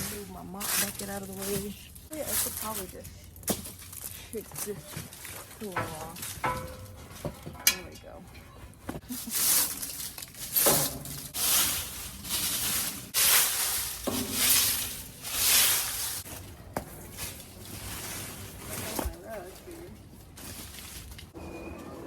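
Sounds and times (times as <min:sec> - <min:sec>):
leaves brushed off floor: 0:00.0 - 0:06.4, 0:09.0 - 0:22.0.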